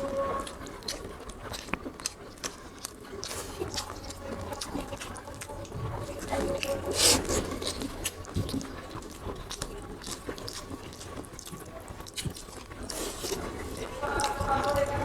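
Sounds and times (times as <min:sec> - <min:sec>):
people chewing and smacking: 0:00.0 - 0:15.0.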